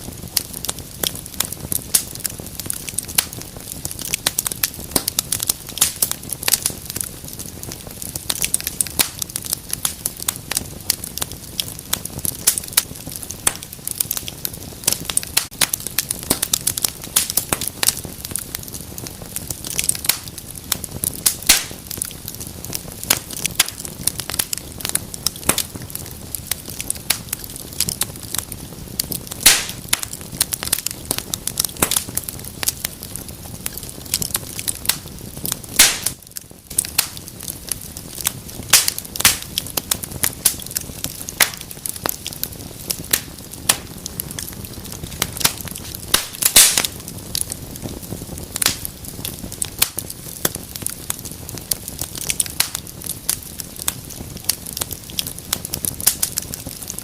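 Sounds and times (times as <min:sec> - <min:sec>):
fireplace fire crackling and popping: 0:00.0 - 0:57.0.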